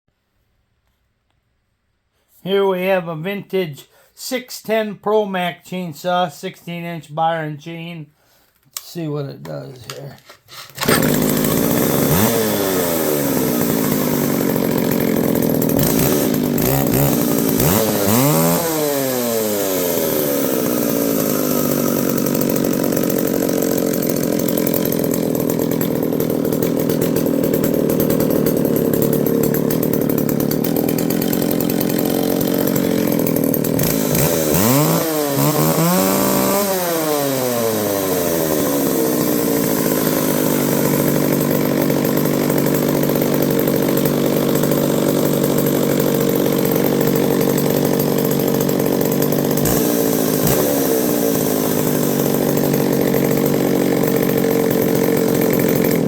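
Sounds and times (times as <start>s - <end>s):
chainsaw revving: 9.8s - 56.0s.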